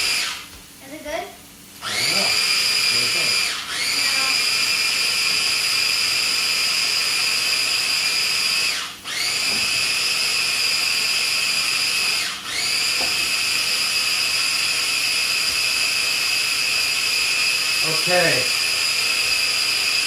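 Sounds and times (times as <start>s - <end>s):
food processor motor whining: 0.0s - 0.5s, 1.8s - 20.0s.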